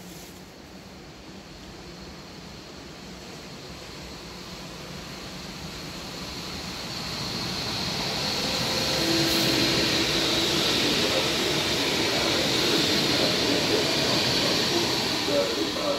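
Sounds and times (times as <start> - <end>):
train wheels rushing on rails: 0.9 - 15.9.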